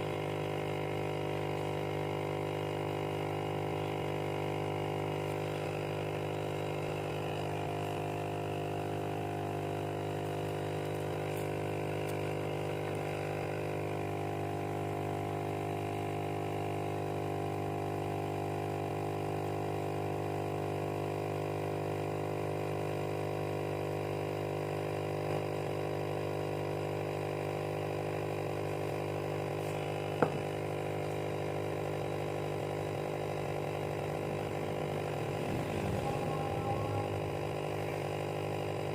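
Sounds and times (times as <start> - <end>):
small electric motor humming: 0.0 - 38.9.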